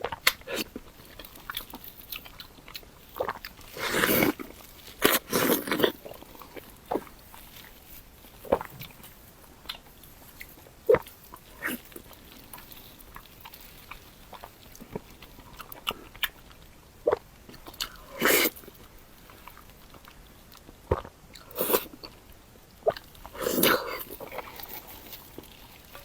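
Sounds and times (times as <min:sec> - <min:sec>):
chewing and crunching: 0:00.0 - 0:26.0.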